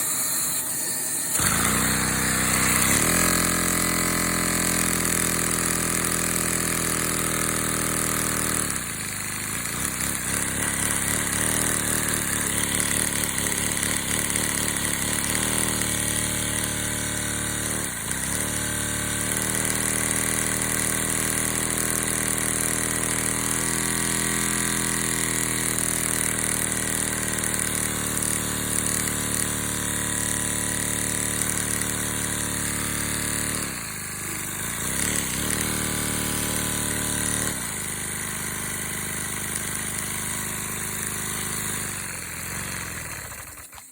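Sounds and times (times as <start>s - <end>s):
small engine humming unevenly: 0.0s - 43.9s.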